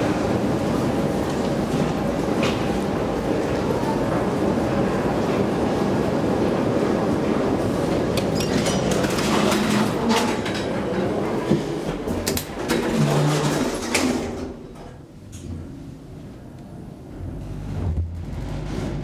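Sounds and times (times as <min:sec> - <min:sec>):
train running: 0:00.0 - 0:15.5
elevator doors sliding: 0:00.0 - 0:19.0.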